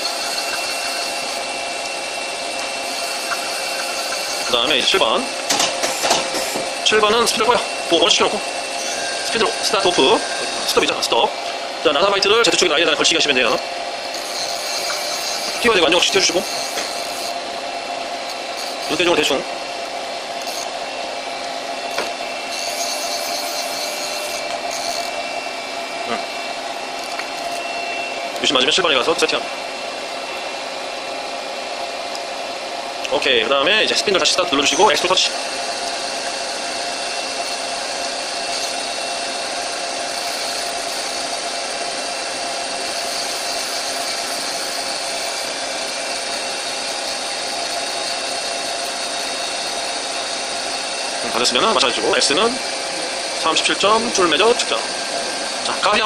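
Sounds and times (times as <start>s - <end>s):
lathe spindle whirring: 0.0s - 56.0s
machine hum with whining tones: 0.0s - 56.0s.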